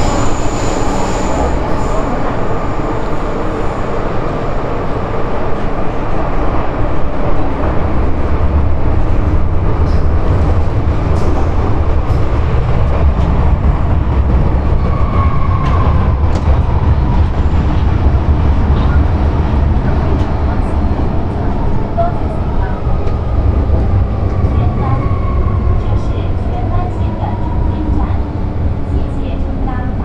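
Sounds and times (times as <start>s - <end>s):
train wheels rumbling: 0.0s - 30.0s.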